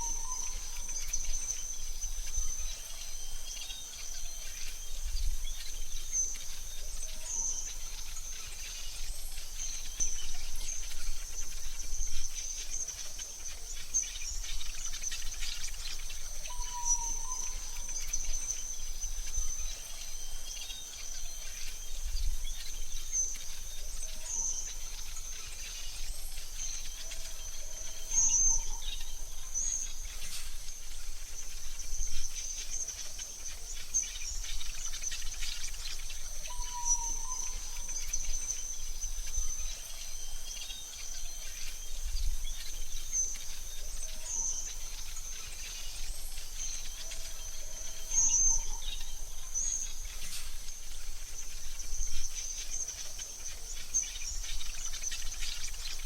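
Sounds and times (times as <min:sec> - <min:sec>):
bird chirps: 0:00.0 - 0:56.0.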